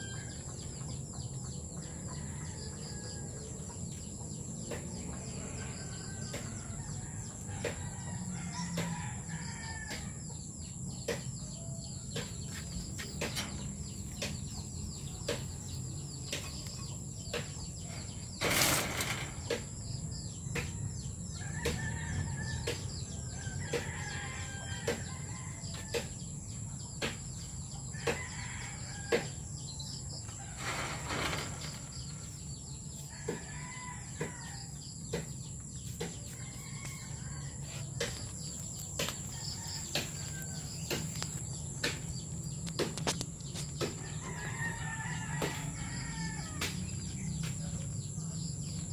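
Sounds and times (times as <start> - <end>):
birds calling: 0.0 - 48.9.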